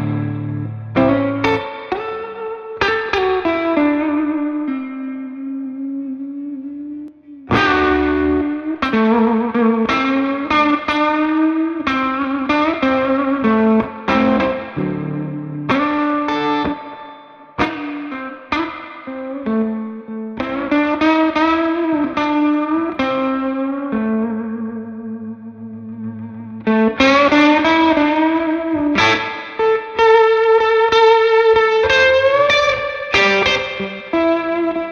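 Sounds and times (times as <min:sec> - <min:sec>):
electric guitar lead phrase: 0:00.0 - 0:34.9.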